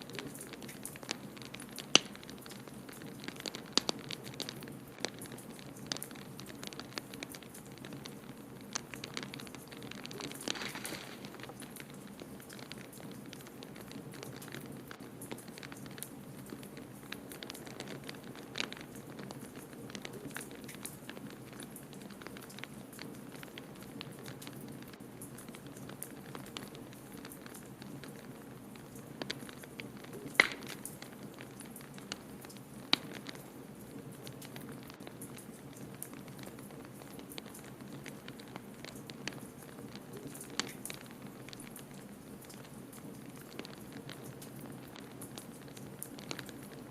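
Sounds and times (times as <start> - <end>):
low rumble of fire: 0.0 - 46.9
wood fire crackling: 0.0 - 46.9.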